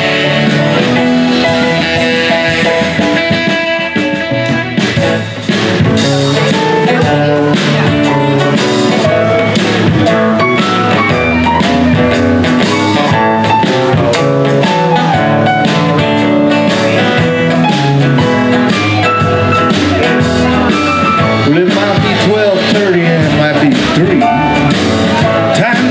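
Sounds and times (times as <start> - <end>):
live band on guitars and drums: 0.0 - 25.9.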